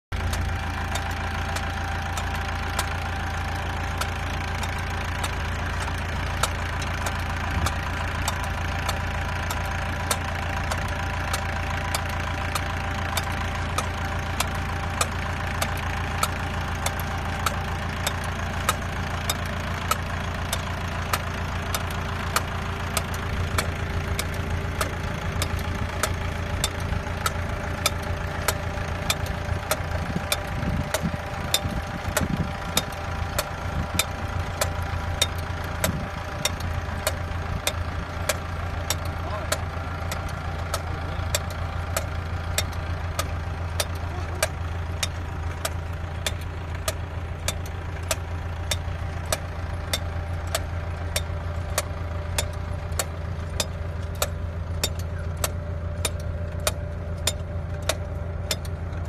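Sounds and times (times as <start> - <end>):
tractor engine running: 0.0 - 59.0
sharp clicks: 0.2 - 59.0.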